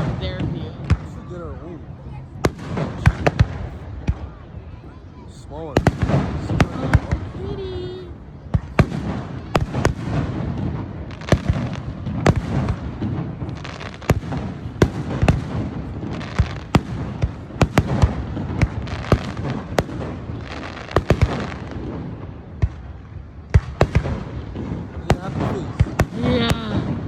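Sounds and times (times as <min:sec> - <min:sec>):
firework bangs and crackles: 0:00.0 - 0:27.0
low rumble of bursting shells: 0:02.4 - 0:04.6, 0:05.8 - 0:27.0.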